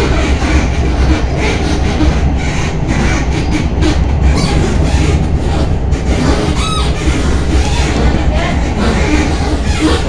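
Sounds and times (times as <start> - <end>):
tram wheels rumbling on track: 0.0 - 10.0.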